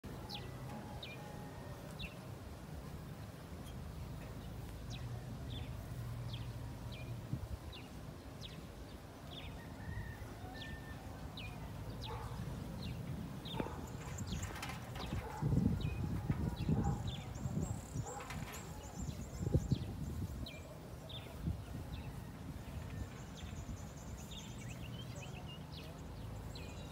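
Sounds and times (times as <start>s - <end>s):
low outdoor rumble: 0.0s - 26.9s.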